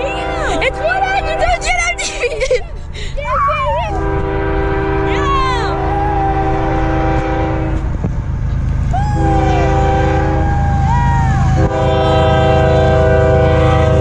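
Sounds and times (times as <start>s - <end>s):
locomotive air horn blasts: 0.0s - 2.2s, 3.9s - 8.0s, 9.1s - 14.0s
train rumbling: 0.0s - 14.0s.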